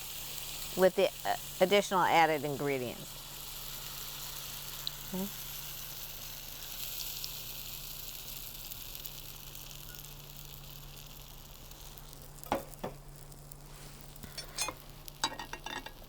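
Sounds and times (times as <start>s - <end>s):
batter sizzling in a skillet: 0.0s - 16.0s.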